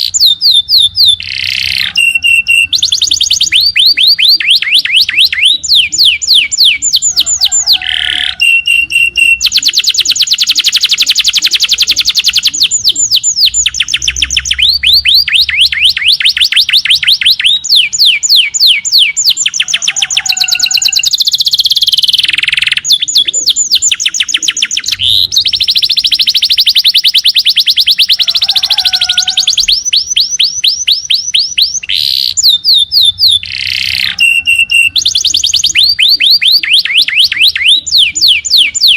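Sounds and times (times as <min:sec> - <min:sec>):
songbird trilling: 0:00.0 - 0:38.9.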